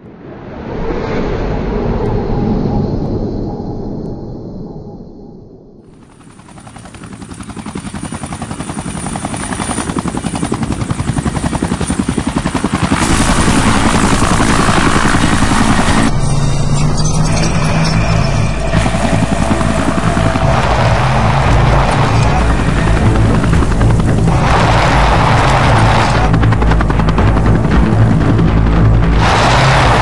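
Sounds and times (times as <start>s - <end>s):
fast mechanical pulsing: 5.9s - 30.0s.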